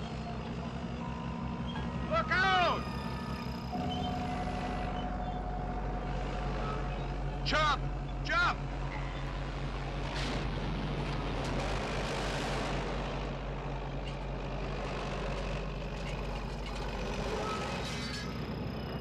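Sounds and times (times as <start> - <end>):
bulldozer engine droning: 0.0 - 19.0.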